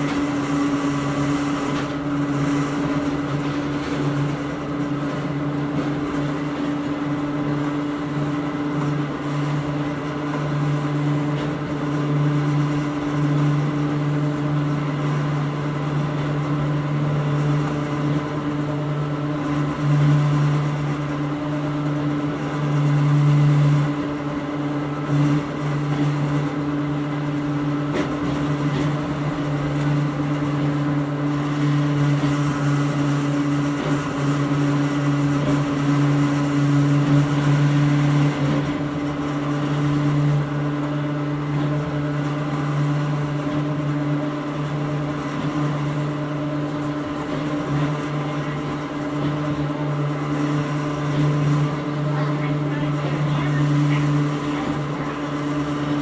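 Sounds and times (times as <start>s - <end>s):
electric railcar running: 0.0s - 56.0s.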